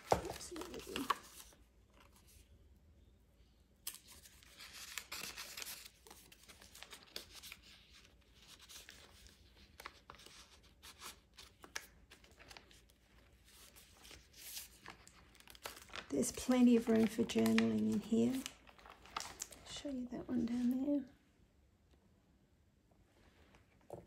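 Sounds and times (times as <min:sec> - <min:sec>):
paper and card rustling: 0:00.0 - 0:02.5, 0:03.8 - 0:21.0.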